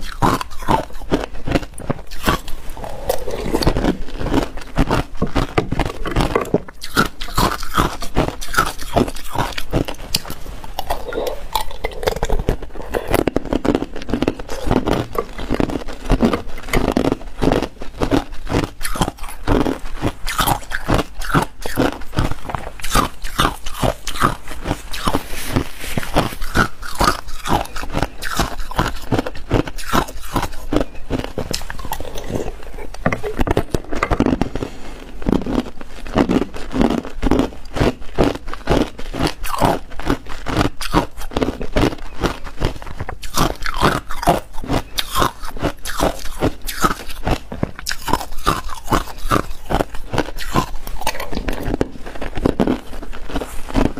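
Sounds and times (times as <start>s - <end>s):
crunching ice cubes: 0.0s - 53.9s.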